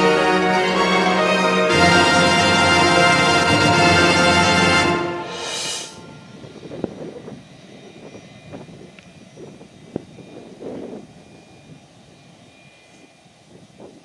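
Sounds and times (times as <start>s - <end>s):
distant jet engine rumble: 1.7s - 14.0s.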